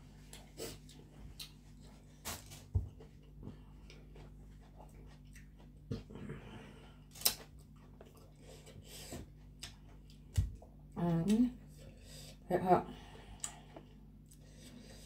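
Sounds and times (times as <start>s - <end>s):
faint low hum: 0.0s - 15.0s
person chewing food: 0.1s - 11.0s, 13.0s - 15.0s.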